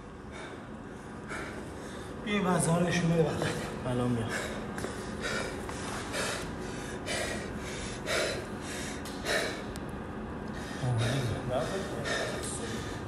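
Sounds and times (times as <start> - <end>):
man breathing hard: 0.2 - 2.2, 3.4 - 9.8, 10.5 - 13.0.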